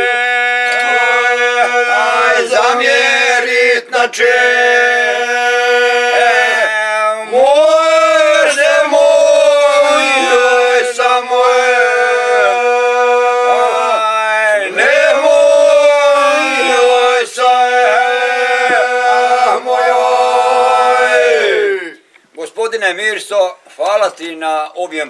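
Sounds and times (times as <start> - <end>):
men singing unaccompanied: 0.0 - 22.0.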